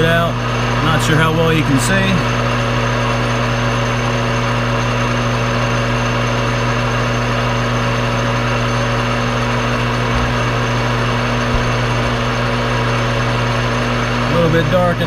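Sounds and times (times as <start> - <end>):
metal lathe cutting steel: 0.0 - 15.0.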